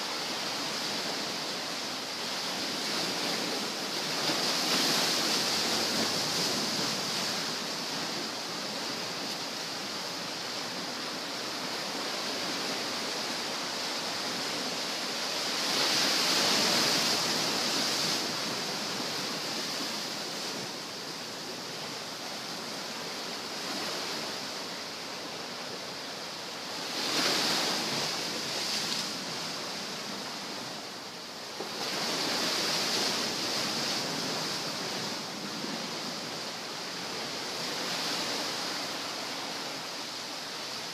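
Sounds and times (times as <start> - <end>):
surf washing on shore: 0.0 - 40.9.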